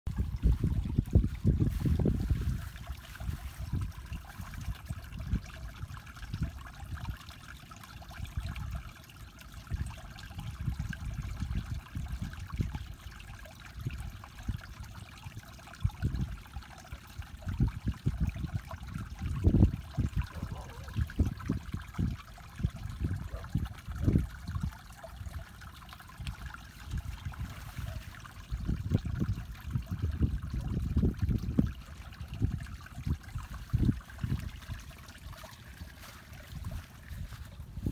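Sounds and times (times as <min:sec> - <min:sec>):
water trickling: 0:00.1 - 0:37.9.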